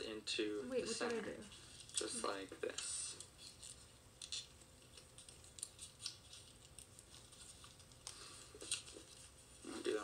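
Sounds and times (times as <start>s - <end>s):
paper rustling and crinkling: 1.4s - 10.0s.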